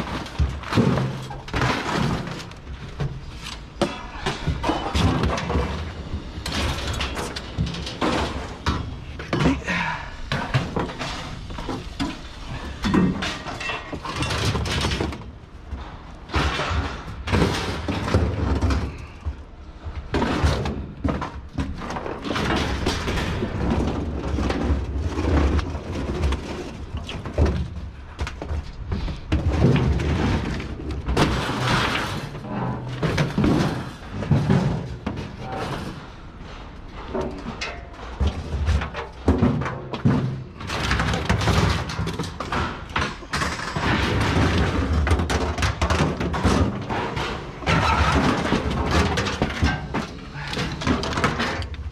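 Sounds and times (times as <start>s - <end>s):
heavy thuds on scrap pile: 0.0s - 51.9s
metal clattering and scraping: 0.0s - 51.9s.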